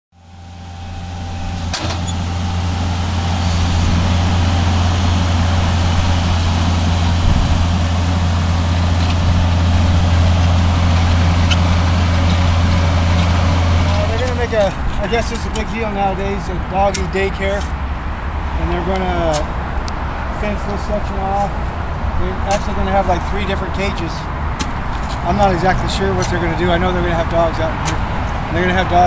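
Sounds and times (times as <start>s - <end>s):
engine running with low hum: 0.2s - 29.0s.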